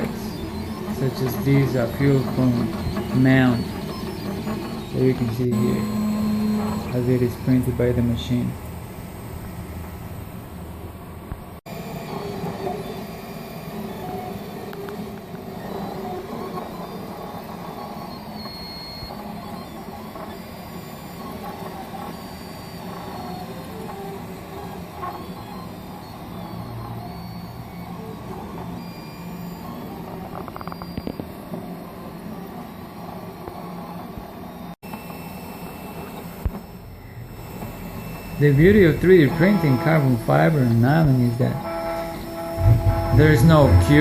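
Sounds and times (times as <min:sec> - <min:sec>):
print head whining tones: 0:00.0 - 0:44.0
printer mechanical hum: 0:00.0 - 0:44.0.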